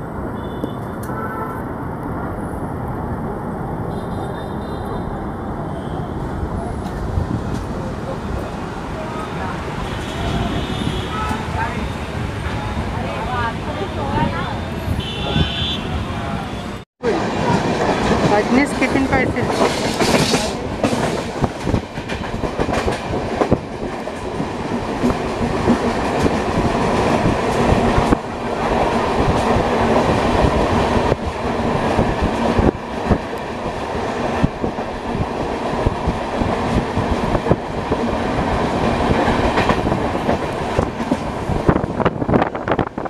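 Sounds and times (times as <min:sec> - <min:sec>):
train rumbling on track: 0:00.0 - 0:43.0.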